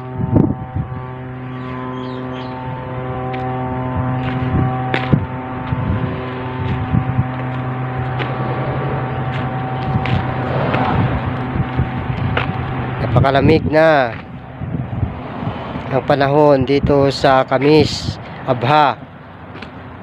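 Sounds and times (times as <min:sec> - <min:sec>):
steady machine drone: 0:00.0 - 0:20.0.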